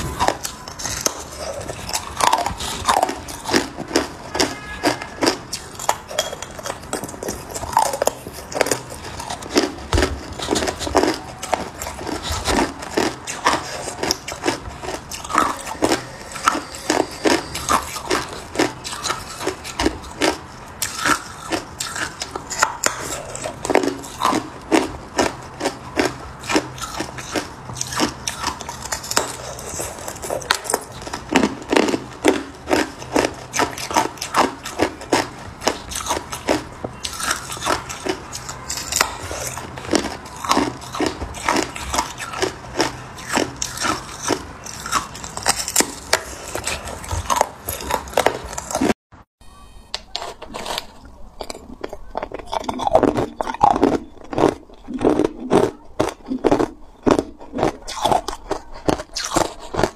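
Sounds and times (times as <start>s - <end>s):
ice being chewed: 0.0s - 49.0s, 50.0s - 59.9s.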